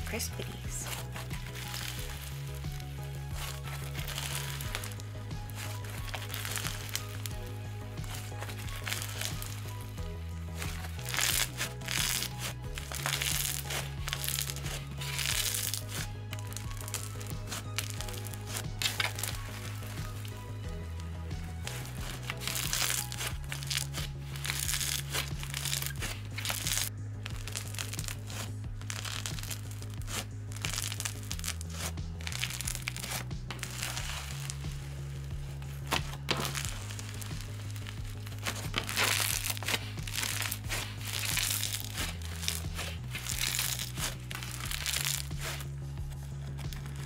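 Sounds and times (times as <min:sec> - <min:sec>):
slime crackling when squeezed: 0:00.0 - 0:20.8, 0:21.4 - 0:47.0
background music with bass line: 0:00.0 - 0:47.0.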